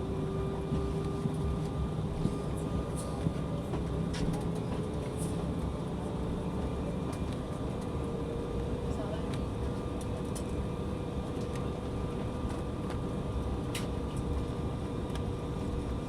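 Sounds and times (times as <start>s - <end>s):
airliner cabin engine hum: 0.0s - 16.0s.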